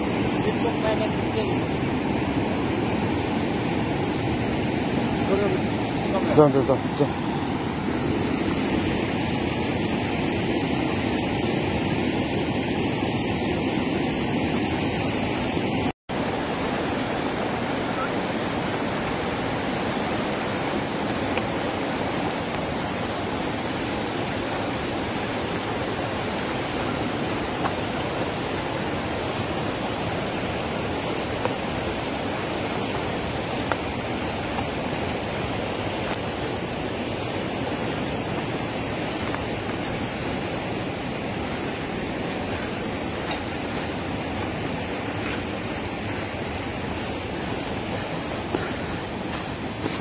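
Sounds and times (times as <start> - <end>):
steady rushing noise: 0.0 - 50.0.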